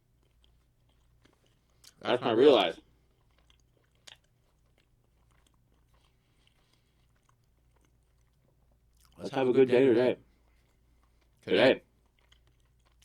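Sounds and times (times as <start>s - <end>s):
person chewing food: 0.0s - 2.0s, 2.8s - 9.2s, 10.2s - 13.0s.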